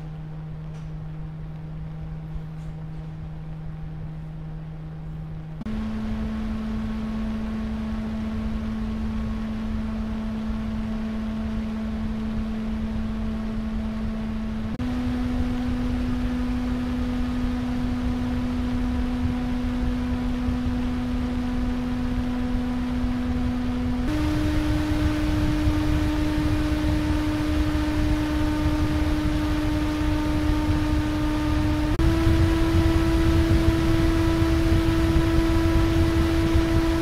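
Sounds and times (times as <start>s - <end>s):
fan humming with airflow: 0.0s - 37.0s.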